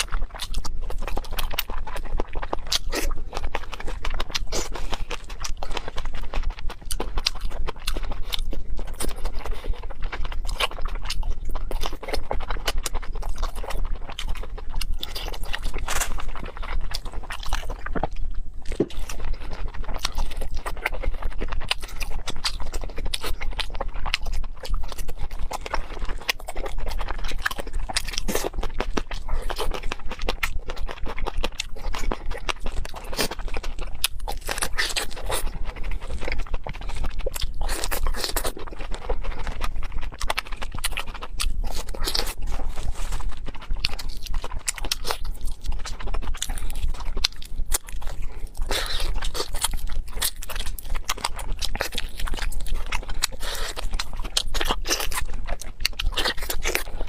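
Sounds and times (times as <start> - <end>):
chewing and mouth clicks: 0.0 - 57.0
food crunching: 0.0 - 57.0.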